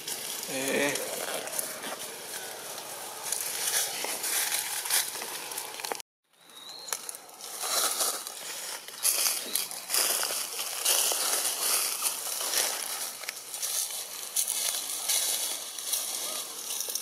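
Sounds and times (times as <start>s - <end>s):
crackling rustling outdoor noise: 0.0s - 17.0s.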